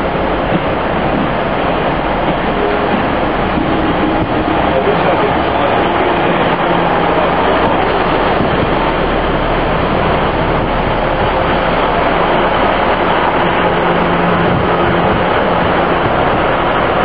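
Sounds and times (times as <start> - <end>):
diesel train running: 0.0 - 17.0.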